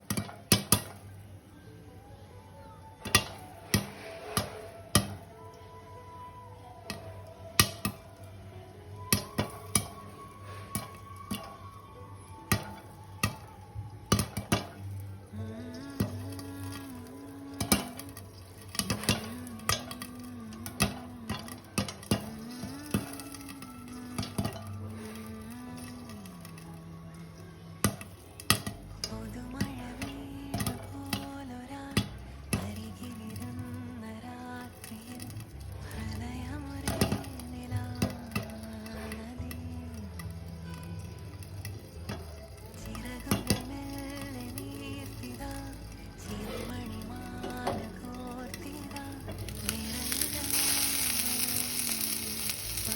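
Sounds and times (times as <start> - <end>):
popcorn kernels popping: 0.0 - 2.0, 2.7 - 8.4, 9.0 - 52.9
background music: 0.0 - 52.9
soft frying sizzle: 0.0 - 52.9.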